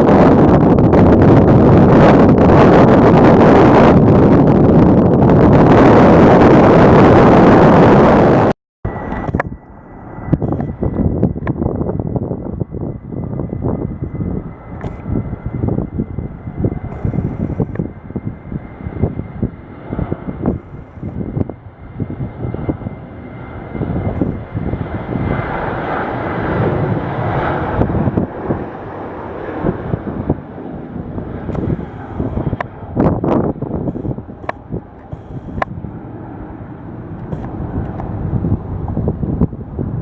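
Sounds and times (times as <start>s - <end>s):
airliner engines whining: 0.0s - 40.0s
wind buffeting microphone: 0.0s - 40.0s.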